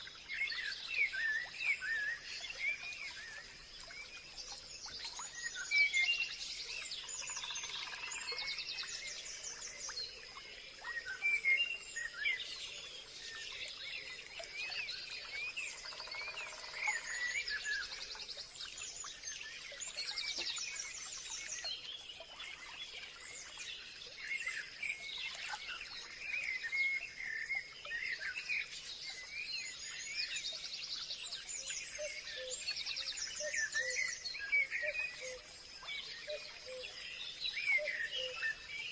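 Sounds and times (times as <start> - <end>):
birds singing and chirping: 0.0 - 38.9.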